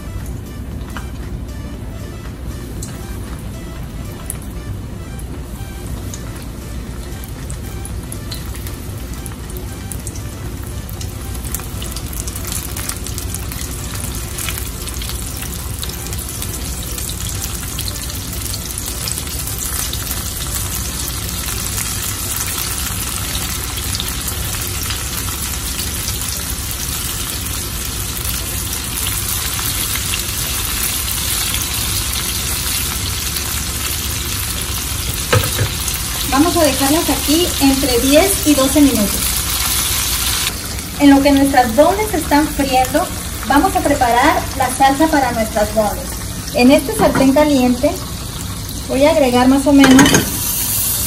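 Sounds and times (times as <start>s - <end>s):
chicken deep-frying in oil: 2.8s - 51.0s.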